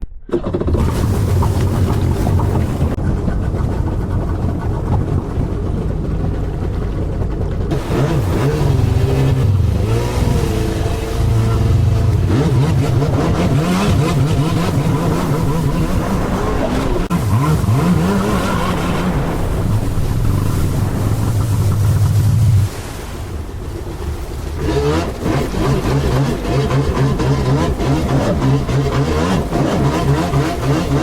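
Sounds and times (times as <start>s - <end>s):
jet ski engine revving: 0.4s - 22.8s, 23.4s - 31.0s.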